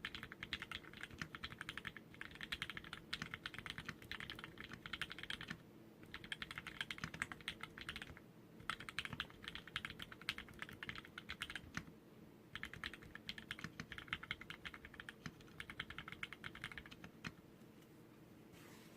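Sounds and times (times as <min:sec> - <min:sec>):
typing on mechanical keyboard: 0:00.0 - 0:11.9, 0:12.5 - 0:17.4.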